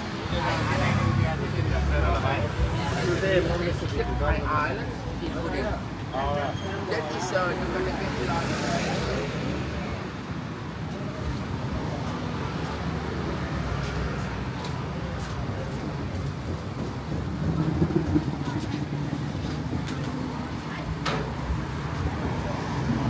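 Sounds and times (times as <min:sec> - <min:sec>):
vehicle engines passing: 0:00.0 - 0:23.0.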